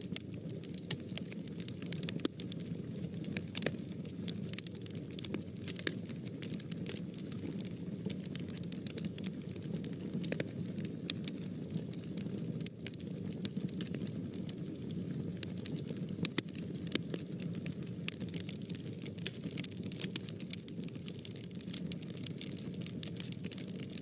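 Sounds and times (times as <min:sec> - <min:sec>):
crackling and popping wood: 0:00.0 - 0:24.0
fire burning in fireplace: 0:00.0 - 0:24.0.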